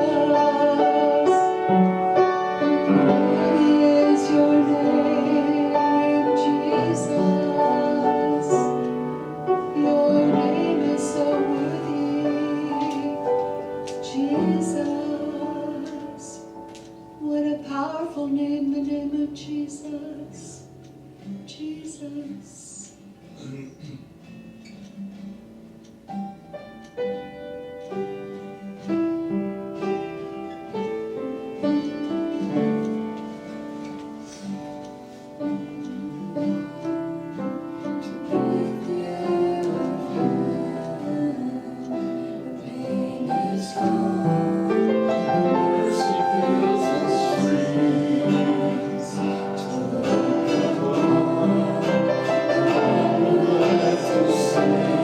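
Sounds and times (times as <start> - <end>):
worship music on piano: 0.0 - 55.0.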